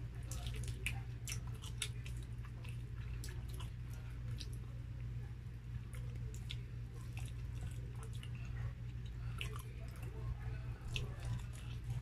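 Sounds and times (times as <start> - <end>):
steady low hum: 0.0 - 12.0
chewing and mouth smacking: 0.2 - 5.1, 5.8 - 12.0.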